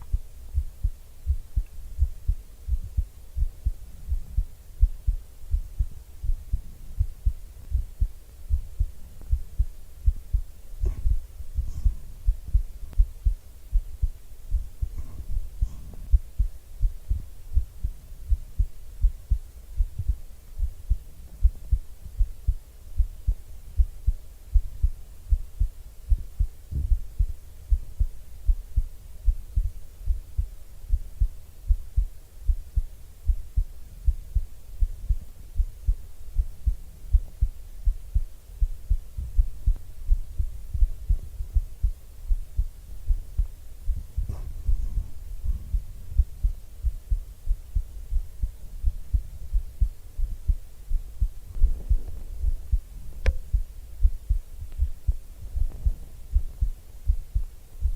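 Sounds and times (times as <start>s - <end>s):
faint rustle of movement: 0.0s - 24.4s, 32.3s - 57.9s
heartbeat thumps: 0.0s - 57.9s.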